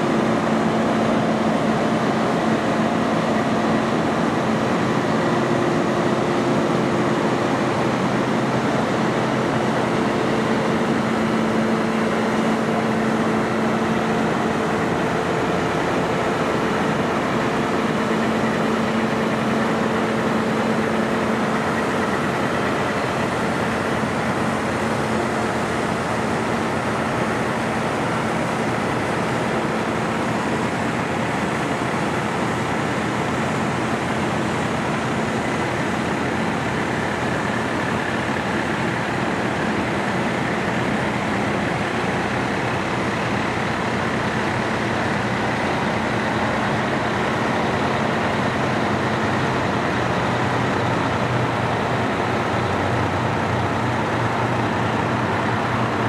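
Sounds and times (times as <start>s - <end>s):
fire truck engine humming: 0.0s - 56.0s.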